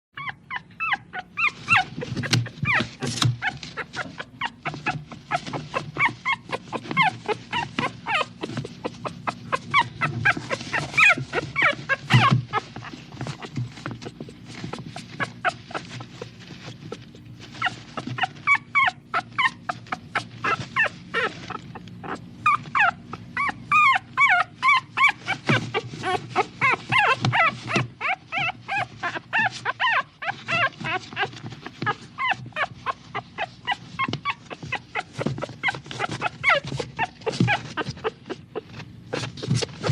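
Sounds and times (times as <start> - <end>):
small dog whimpering: 0.2 - 39.9.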